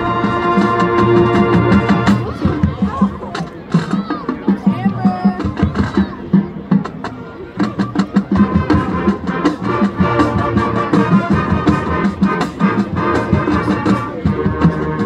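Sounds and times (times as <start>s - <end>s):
marching band wind and brass: 0.0s - 15.0s.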